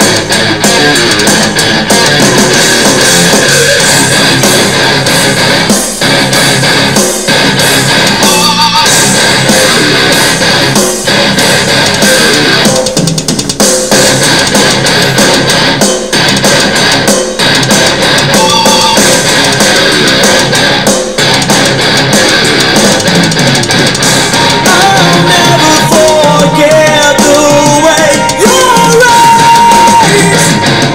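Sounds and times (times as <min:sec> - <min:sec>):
guitar and drums music on speaker: 0:00.0 - 0:30.9.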